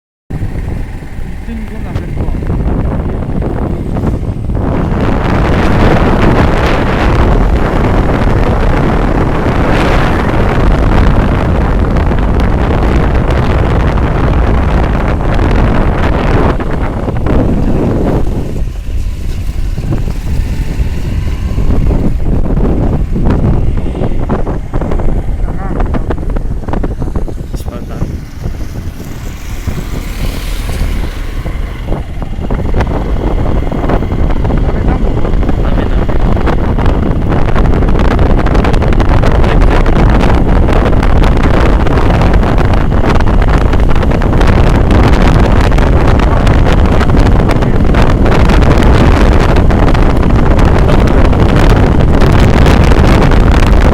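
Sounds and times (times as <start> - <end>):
road and vehicle noise: 0.3 - 53.9
wind buffeting microphone: 0.3 - 53.9.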